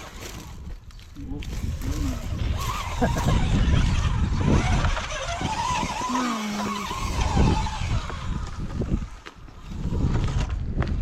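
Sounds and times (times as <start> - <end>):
electric motor and gears whining: 0.0 - 11.0
wind rumble on microphone: 0.0 - 11.0.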